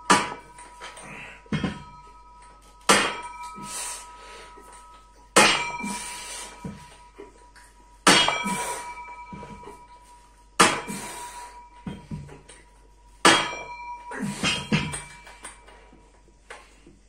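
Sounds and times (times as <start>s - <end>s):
weight plates clanging: 0.0s - 16.7s.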